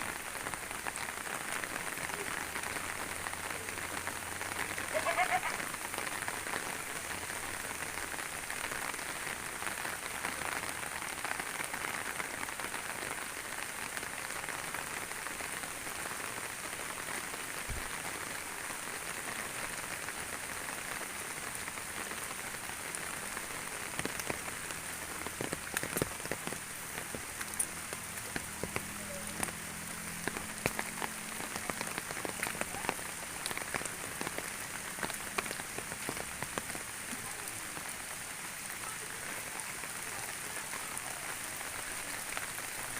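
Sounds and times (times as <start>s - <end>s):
rain hissing: 0.0s - 42.9s
raindrop ticks: 0.1s - 42.9s.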